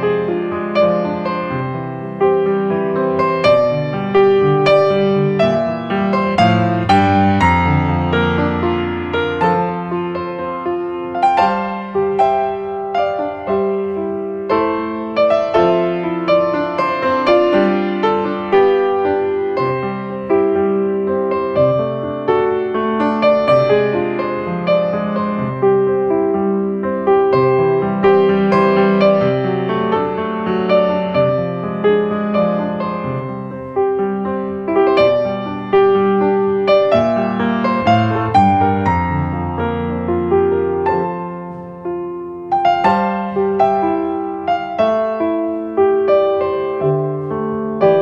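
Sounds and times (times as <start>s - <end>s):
gentle piano music: 0.0s - 48.0s.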